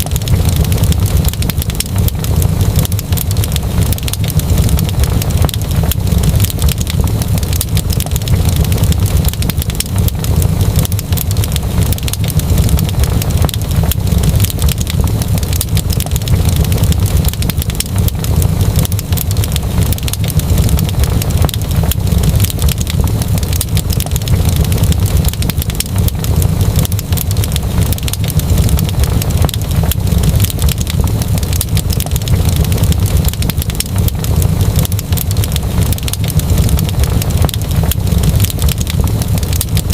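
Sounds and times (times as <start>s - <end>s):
low rumble: 0.0s - 39.9s
wood fire crackling: 0.0s - 39.9s.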